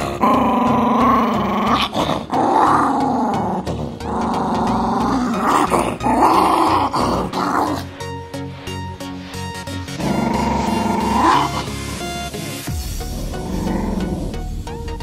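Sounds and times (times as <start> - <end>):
dog growling playfully: 0.0 - 8.2, 9.4 - 14.6.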